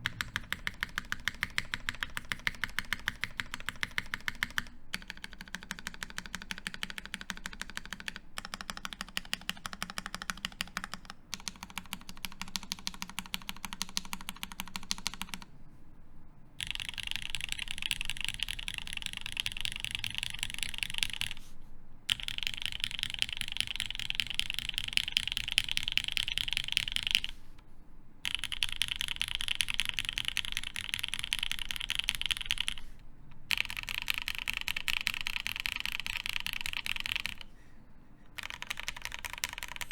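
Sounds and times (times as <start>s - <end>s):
typing on mechanical keyboard: 0.0s - 15.5s, 16.6s - 21.4s, 22.1s - 27.4s, 28.2s - 37.5s, 38.3s - 39.9s.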